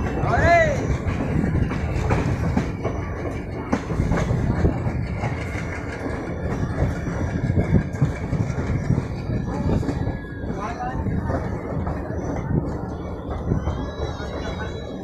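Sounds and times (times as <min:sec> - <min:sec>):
train wheels clattering over rail joints: 0:00.0 - 0:15.0.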